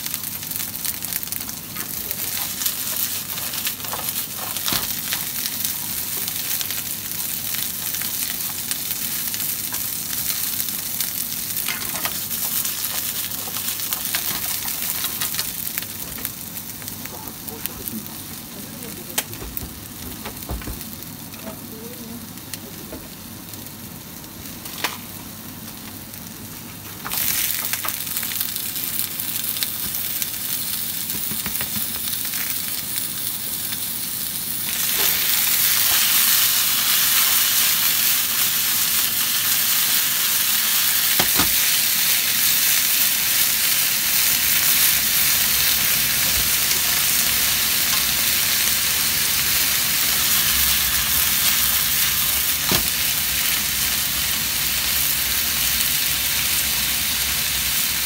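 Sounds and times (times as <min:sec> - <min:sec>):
onions sizzling in a frying pan: 0:00.0 - 0:58.0.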